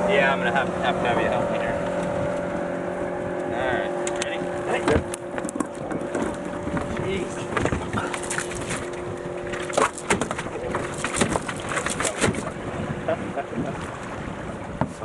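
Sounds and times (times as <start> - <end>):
knocks and bumps in a boat: 0.0 - 15.0.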